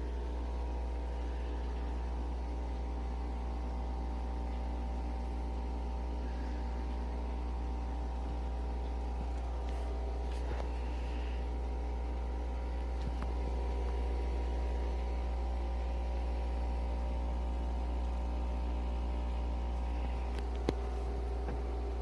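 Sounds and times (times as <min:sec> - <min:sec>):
coffee machine motor hum: 0:00.0 - 0:22.0.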